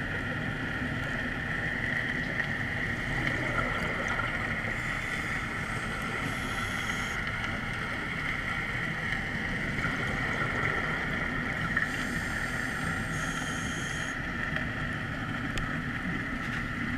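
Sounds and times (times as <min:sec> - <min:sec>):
constant high hum: 0:00.0 - 0:16.9
underwater noise: 0:00.0 - 0:16.9.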